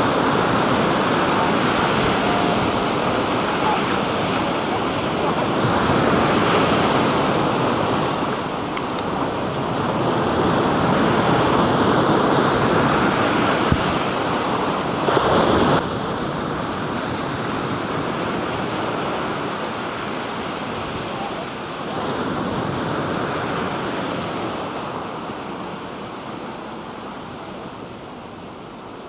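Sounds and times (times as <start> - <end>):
surf washing on shore: 0.0 - 29.0.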